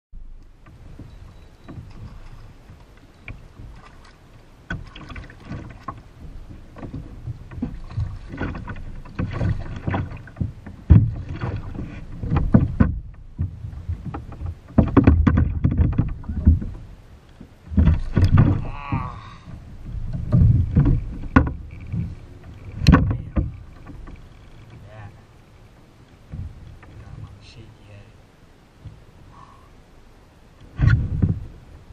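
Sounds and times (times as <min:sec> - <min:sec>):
water noise: 0:00.2 - 0:31.9
kayak bumping and knocking: 0:00.3 - 0:27.4, 0:28.8 - 0:29.5, 0:30.6 - 0:31.9.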